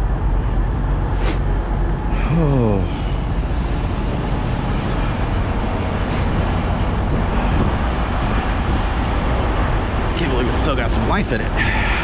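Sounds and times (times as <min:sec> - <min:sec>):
vehicle engines idling: 0:00.0 - 0:12.0.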